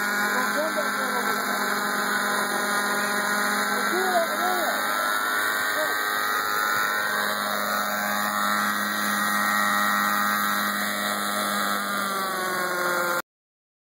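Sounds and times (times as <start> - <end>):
model helicopter engine and rotors: 0.0 - 13.2.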